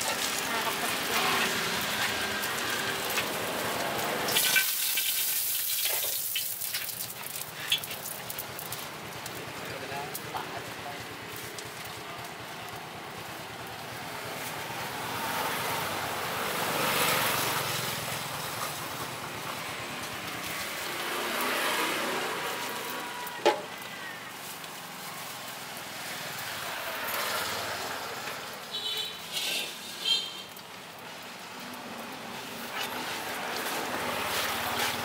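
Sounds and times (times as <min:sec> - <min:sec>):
street traffic passing: 0:00.0 - 0:35.0.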